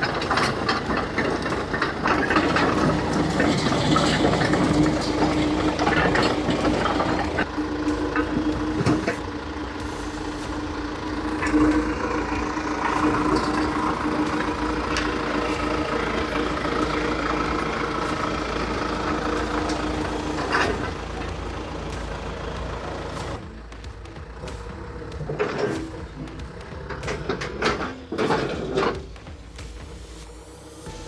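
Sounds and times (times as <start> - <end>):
sharp metal clanks: 0.0 - 30.2
heavy equipment engine running: 0.0 - 31.0.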